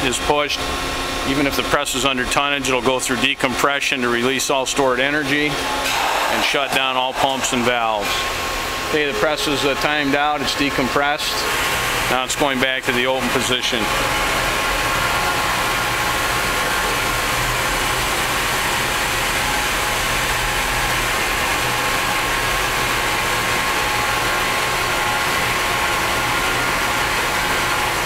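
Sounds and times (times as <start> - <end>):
hydraulic pumps humming and whining: 0.0 - 28.0.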